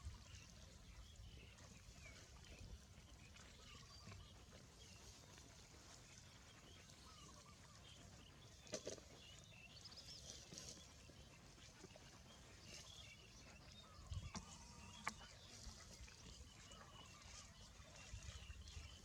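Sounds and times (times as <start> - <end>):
small birds chirping: 2.9 - 19.0.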